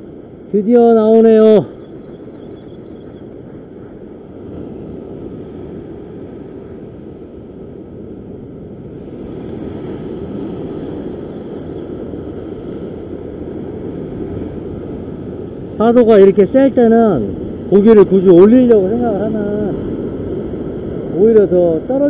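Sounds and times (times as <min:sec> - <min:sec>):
ocean surf breaking on rocks: 0:00.0 - 0:22.0.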